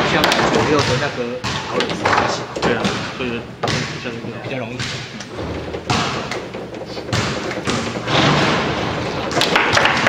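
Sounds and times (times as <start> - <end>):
foosball ball knocking: 0.0 - 10.0
foosball rods clacking: 0.0 - 10.0.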